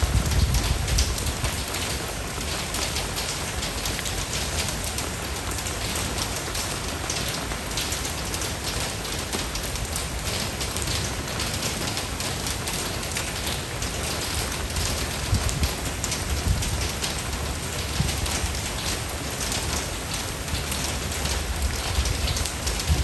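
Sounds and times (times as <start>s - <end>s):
steady rain patter: 0.0s - 23.0s.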